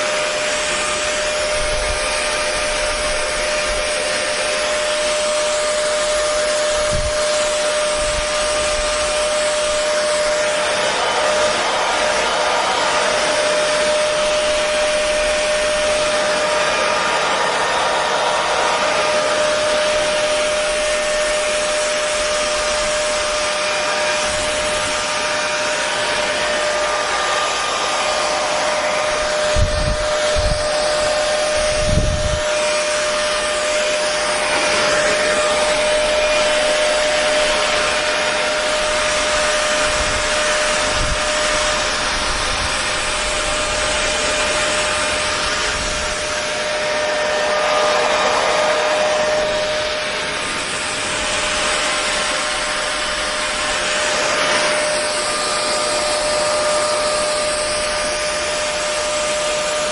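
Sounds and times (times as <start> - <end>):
hair dryer running: 0.0 - 59.9.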